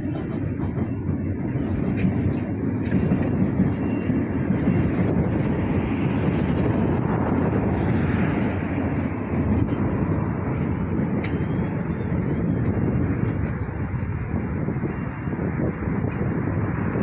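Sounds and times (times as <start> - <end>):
elevated train rumbling: 0.0 - 17.0.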